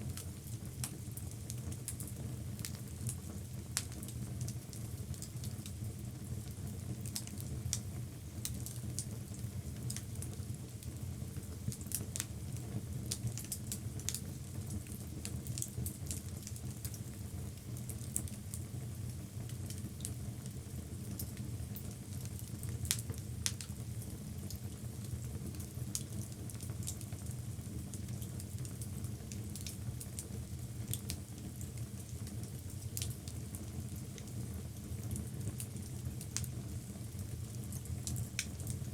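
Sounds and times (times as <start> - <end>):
low rumble of flames: 0.0 - 38.9
fire crackling and popping: 0.1 - 38.9.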